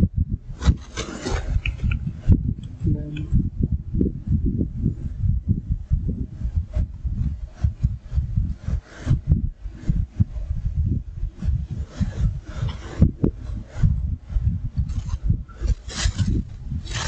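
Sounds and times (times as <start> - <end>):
low thuds and rubbing: 0.0 - 17.0.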